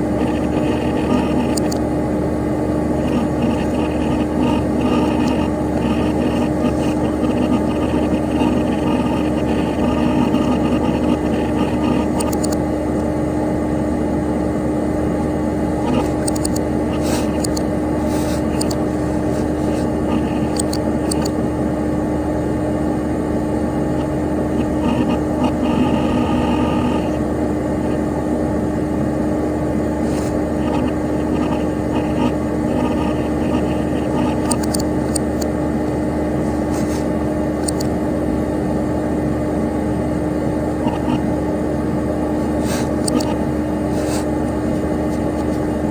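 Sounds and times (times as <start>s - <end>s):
computer fan and drive whir: 0.0s - 45.9s
constant hum-like tone: 0.0s - 45.9s.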